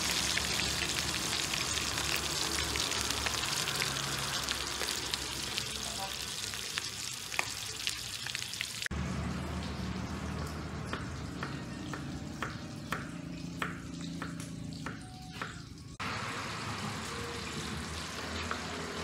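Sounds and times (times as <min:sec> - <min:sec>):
chicken sizzling in oil: 0:00.0 - 0:19.0.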